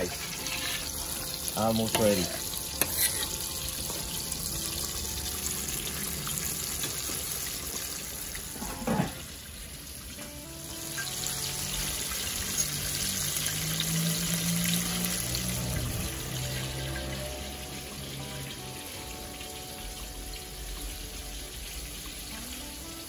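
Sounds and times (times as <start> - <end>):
soft background music: 0.0 - 8.3, 9.5 - 23.0
fish deep-frying in oil: 0.0 - 23.0.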